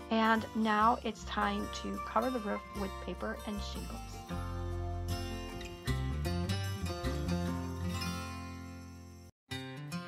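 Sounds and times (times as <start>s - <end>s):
plucked string music: 0.2s - 10.0s.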